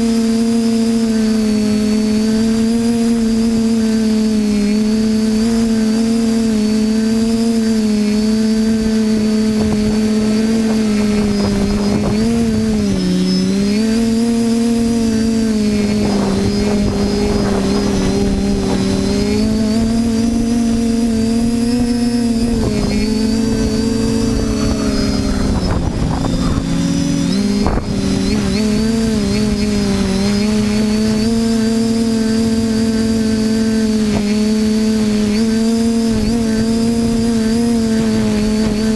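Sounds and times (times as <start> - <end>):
buffeting noise: 0.0 - 38.9
quadcopter propellers buzzing: 0.0 - 38.9.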